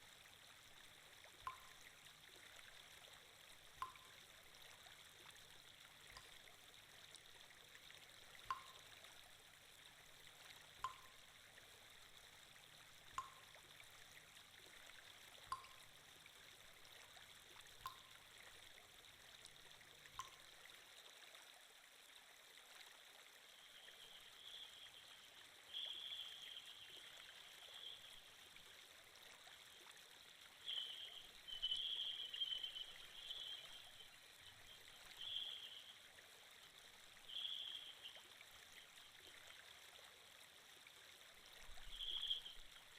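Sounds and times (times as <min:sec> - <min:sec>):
trickling water: 0:00.0 - 0:42.9.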